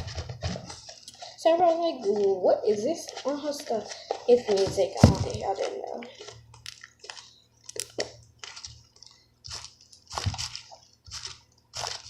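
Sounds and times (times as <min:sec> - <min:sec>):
slime squelching: 0:00.4 - 0:12.0.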